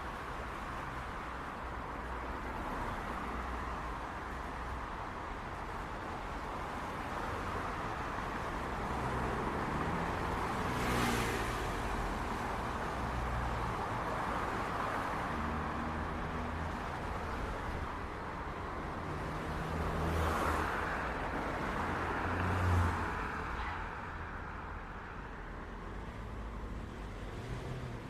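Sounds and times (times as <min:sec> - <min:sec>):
city traffic: 0:00.0 - 0:28.0
vehicles passing close by: 0:00.0 - 0:28.0.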